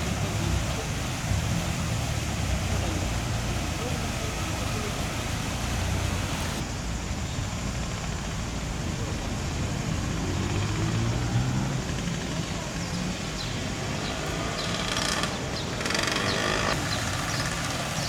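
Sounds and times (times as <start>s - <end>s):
vehicle engine passing: 0.0s - 6.6s, 10.0s - 18.0s
traffic hum: 0.0s - 18.0s.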